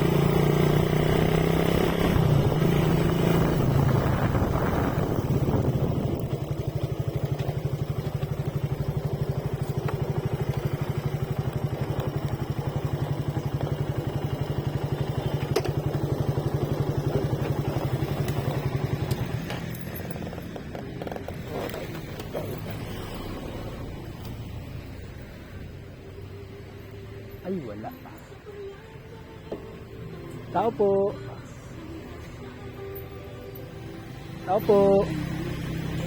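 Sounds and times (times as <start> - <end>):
motorcycle engine running: 0.0 - 28.6, 30.5 - 36.0.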